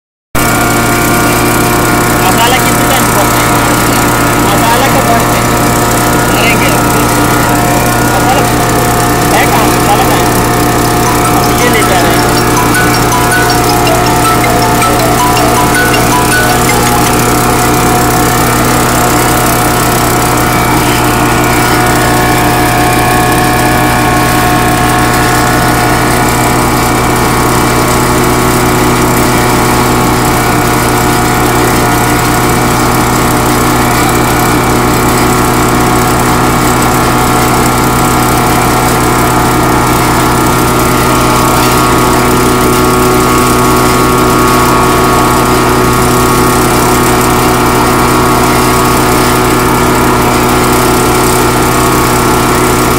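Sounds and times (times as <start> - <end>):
small engine running steadily: 0.4 - 52.9.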